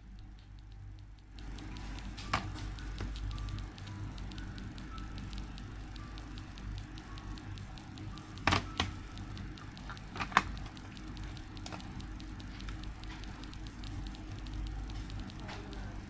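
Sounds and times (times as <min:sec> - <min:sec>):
faint crackling: 0:00.0 - 0:16.0
steady low hum: 0:00.0 - 0:16.0
plastic remote controls clicking: 0:01.4 - 0:16.0.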